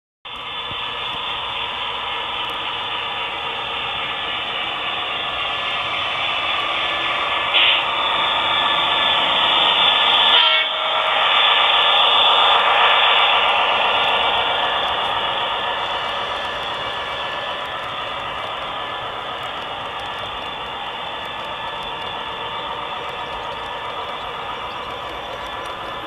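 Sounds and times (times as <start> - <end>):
model train running past: 0.3 - 26.0.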